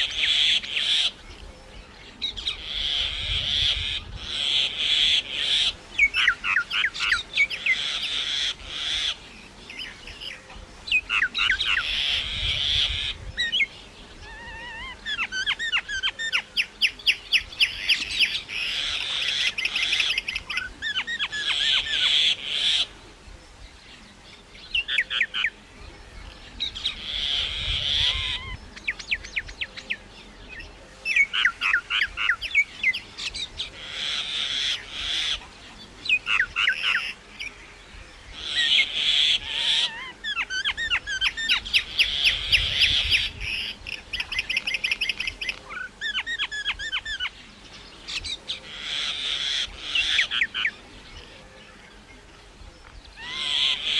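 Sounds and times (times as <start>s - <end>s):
myna calling: 0.0s - 23.2s, 24.7s - 53.9s.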